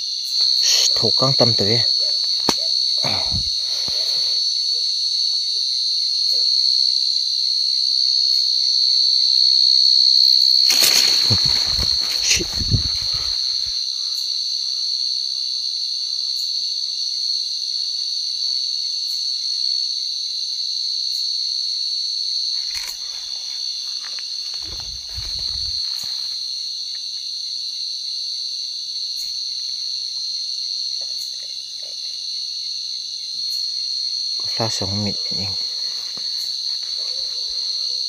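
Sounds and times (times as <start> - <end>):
night insects droning: 0.0 - 38.0.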